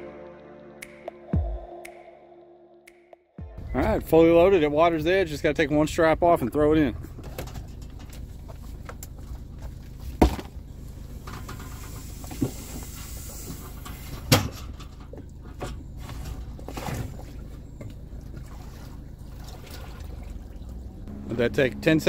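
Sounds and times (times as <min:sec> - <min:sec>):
steady low hum: 0:03.6 - 0:22.0.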